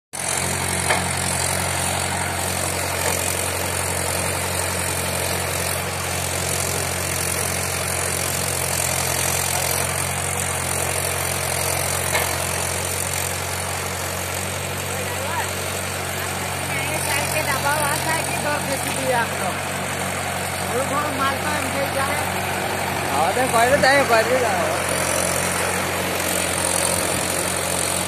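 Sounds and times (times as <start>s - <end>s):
tractor diesel engine drone: 0.2s - 28.0s.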